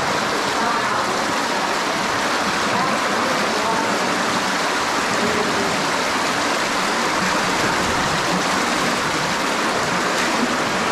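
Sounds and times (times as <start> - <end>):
stream rushing over rocks: 0.0 - 10.9.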